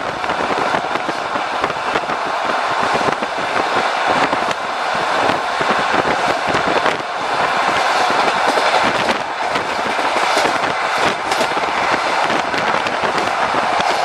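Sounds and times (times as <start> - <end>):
train wheels rumbling on bridge: 0.0 - 14.0.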